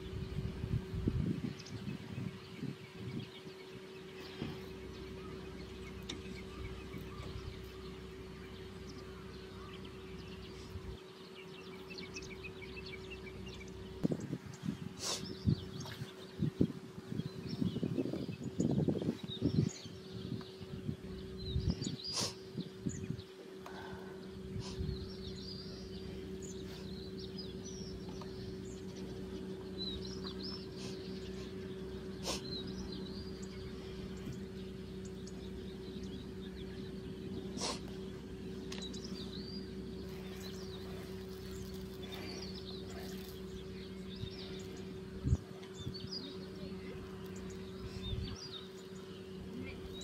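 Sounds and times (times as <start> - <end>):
small birds chirping: 0.0 - 50.0
steady low hum: 0.0 - 50.0.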